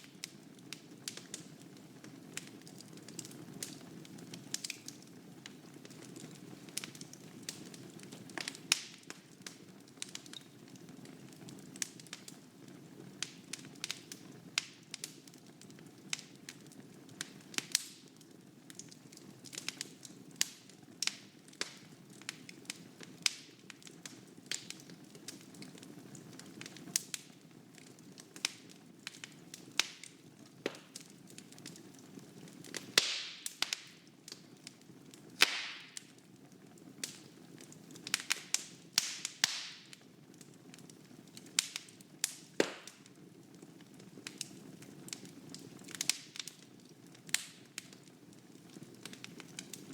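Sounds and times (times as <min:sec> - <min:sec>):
fire crackling and popping: 0:00.0 - 0:49.9
fire rumbling: 0:00.0 - 0:49.9.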